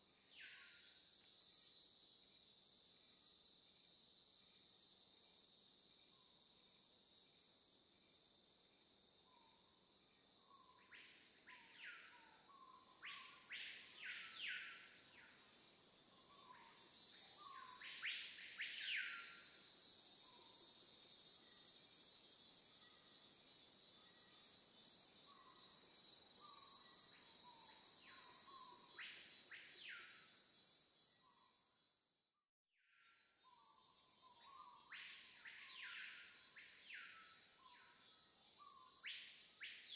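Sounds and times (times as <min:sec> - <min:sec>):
faint bird chirps: 0:00.0 - 0:03.6, 0:09.0 - 0:39.9
insects droning: 0:00.0 - 0:32.3, 0:32.9 - 0:39.9.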